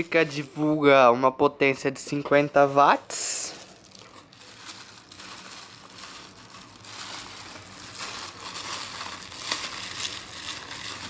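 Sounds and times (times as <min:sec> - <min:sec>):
plastic bag crinkling: 0:00.0 - 0:00.6, 0:02.4 - 0:11.0.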